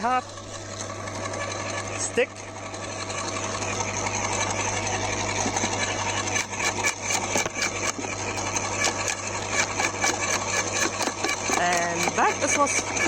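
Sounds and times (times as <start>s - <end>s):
garden shredder humming: 0.0s - 13.0s.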